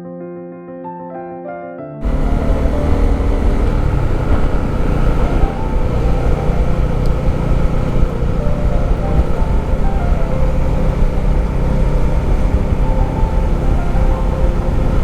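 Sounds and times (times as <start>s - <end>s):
soft piano music: 0.0s - 15.0s
motorcycle engine: 2.0s - 15.0s
wind noise on microphone: 2.0s - 15.0s.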